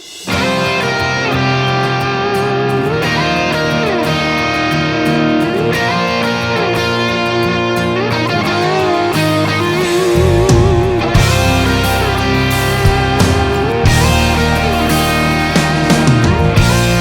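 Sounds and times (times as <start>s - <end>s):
band backing: 0.0s - 17.0s
electric guitar lead with bends: 0.0s - 17.0s.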